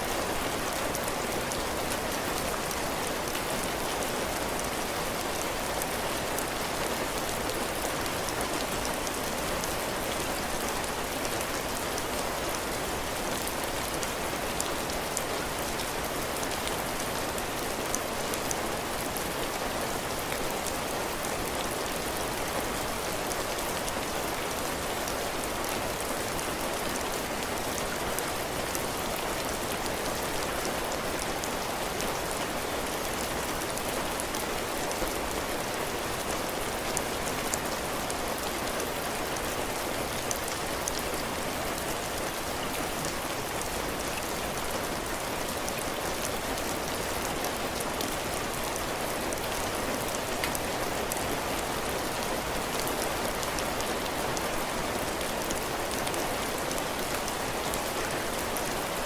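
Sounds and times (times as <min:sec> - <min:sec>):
heavy rain on porch roof: 0:00.0 - 0:59.0.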